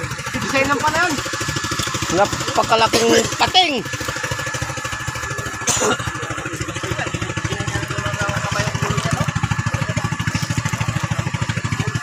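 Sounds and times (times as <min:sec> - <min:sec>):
boat motor chugging at idle: 0:00.0 - 0:12.0.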